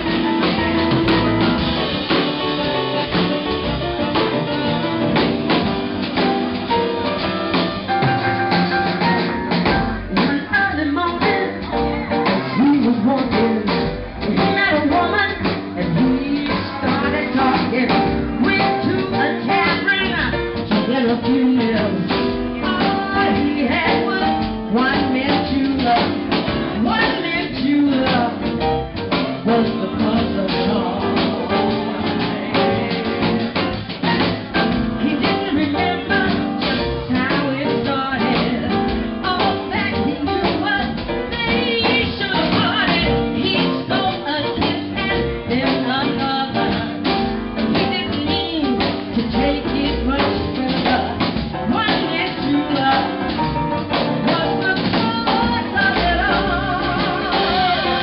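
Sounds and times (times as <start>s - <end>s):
double bass: 0.0s - 58.0s
drum kit: 0.0s - 58.0s
woman singing into microphone: 9.9s - 58.0s.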